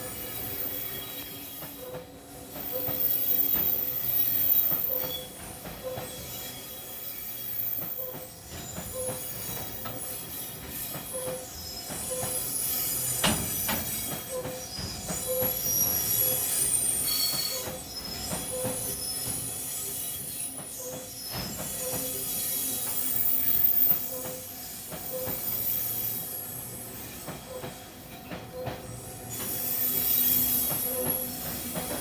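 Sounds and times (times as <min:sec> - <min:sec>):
train wheels squealing on rails: 0:00.0 - 0:32.0.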